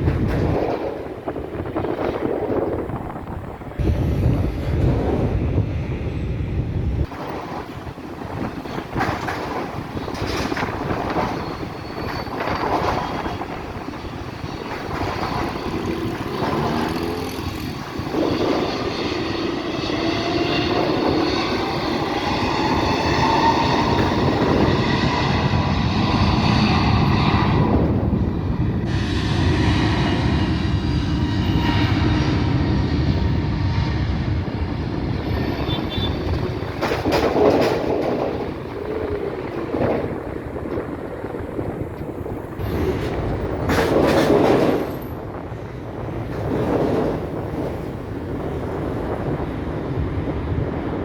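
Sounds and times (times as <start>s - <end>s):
jet airliner passing low: 0.0s - 51.0s.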